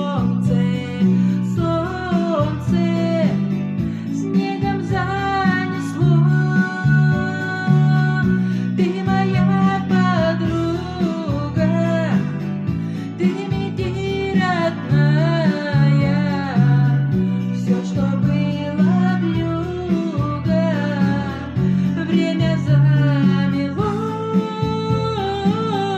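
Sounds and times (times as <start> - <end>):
acoustic guitar plucked: 0.0 - 25.9
person singing: 0.0 - 25.9.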